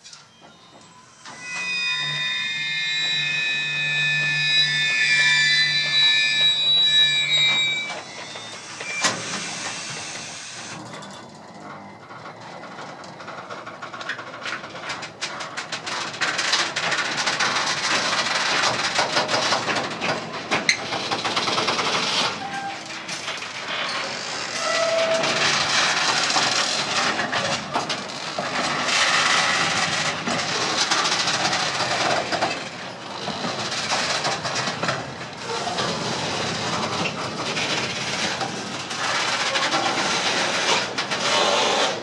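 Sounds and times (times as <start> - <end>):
freight wagons rolling on rails: 0.0 - 42.0.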